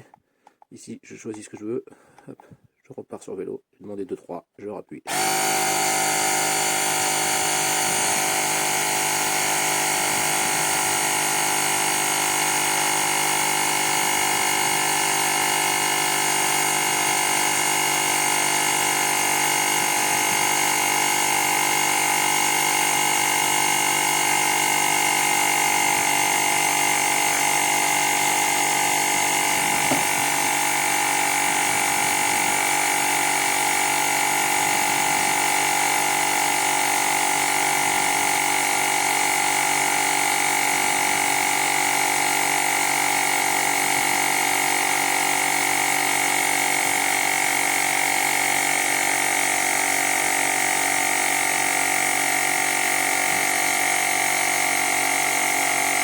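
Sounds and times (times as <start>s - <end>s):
tyre inflator compressor running: 5.1s - 56.0s.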